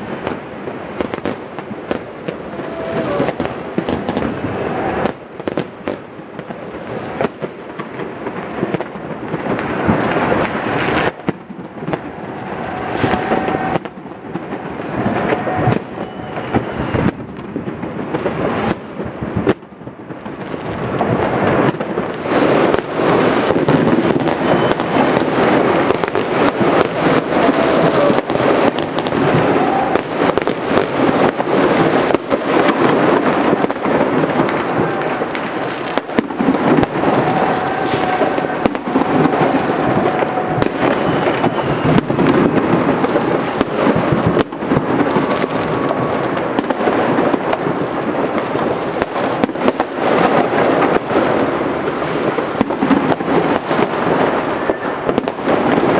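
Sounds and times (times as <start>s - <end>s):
fireworks cracks and bangs: 0.0s - 55.9s.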